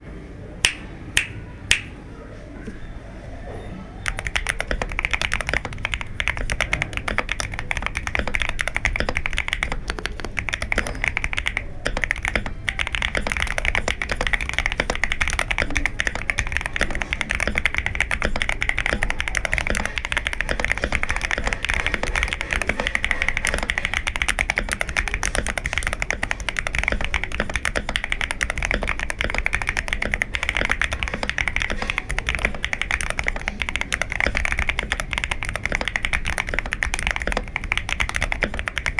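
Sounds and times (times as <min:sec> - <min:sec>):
mechanical keyboard typing: 0:04.0 - 0:38.9.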